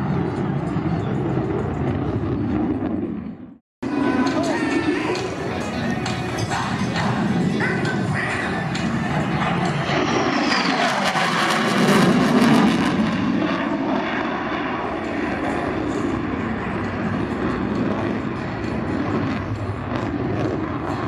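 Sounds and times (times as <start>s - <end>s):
jet engine roaring past: 0.0s - 21.0s.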